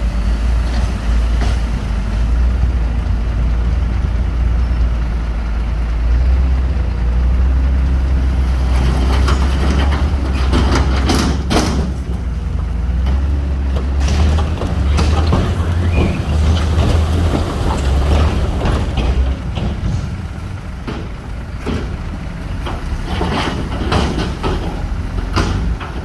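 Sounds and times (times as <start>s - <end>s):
diesel machinery rumbling: 0.0s - 26.0s
machinery clattering: 0.2s - 26.0s.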